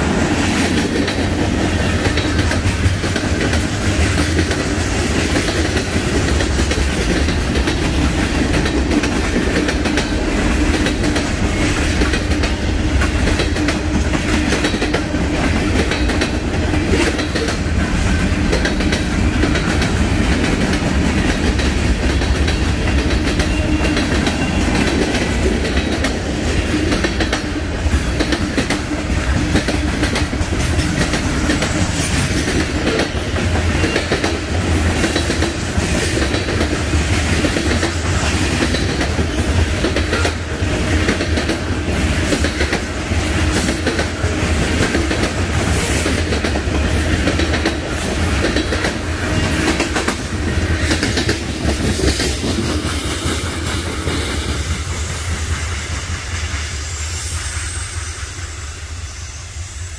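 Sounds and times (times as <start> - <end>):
train wheels clicking over rail joints: 0.0 - 57.6
train rumble: 0.0 - 59.9.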